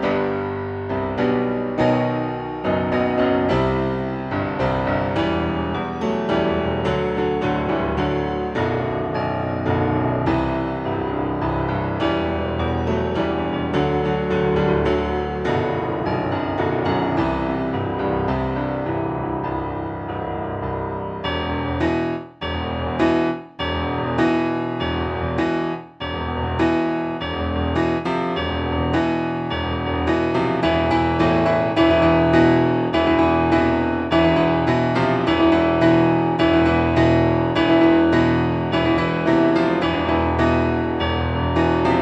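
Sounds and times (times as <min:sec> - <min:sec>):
piano music: 0:00.0 - 0:42.0.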